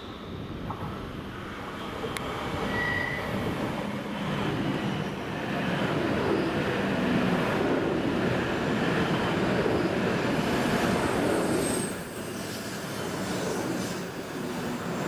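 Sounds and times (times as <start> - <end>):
train rail rumble: 0.0 - 15.0.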